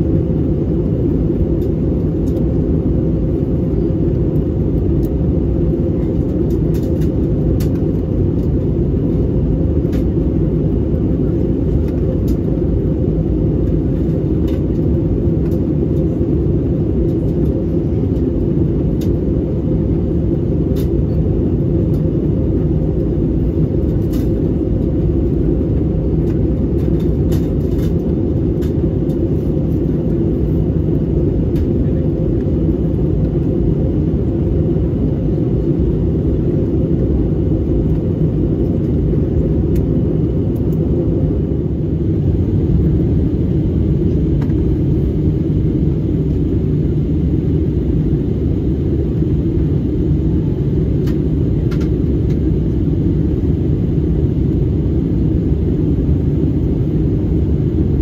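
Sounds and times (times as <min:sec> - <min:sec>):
airliner cabin engine roar: 0:00.0 - 0:58.0.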